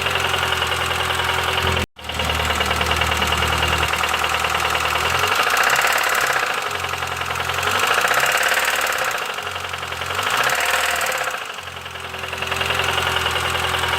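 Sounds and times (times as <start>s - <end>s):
car engine with metallic clatter: 0.0s - 13.9s.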